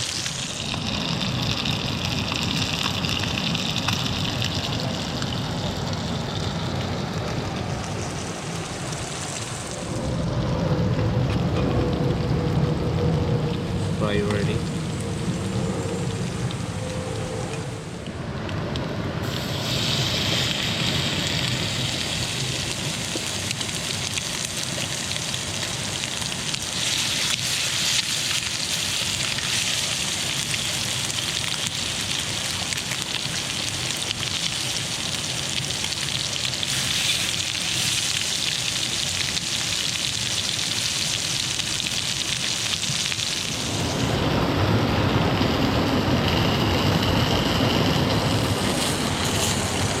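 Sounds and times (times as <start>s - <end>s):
heavy rain hissing: 0.0s - 18.1s, 19.0s - 50.0s.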